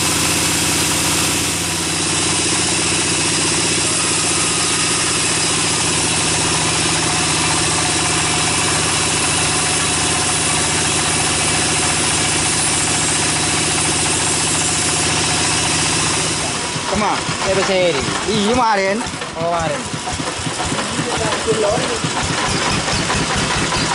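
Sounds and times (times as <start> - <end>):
band saw droning: 0.0 - 23.9.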